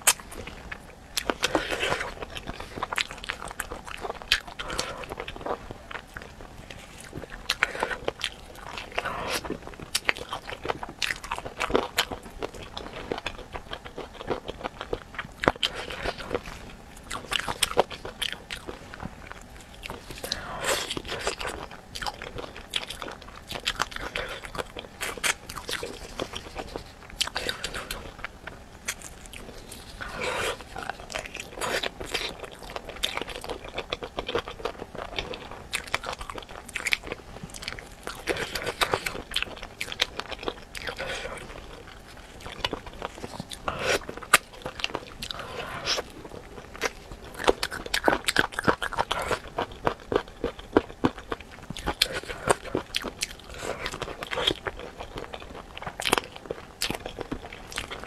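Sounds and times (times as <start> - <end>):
crunching and chewing: 0.0 - 58.0.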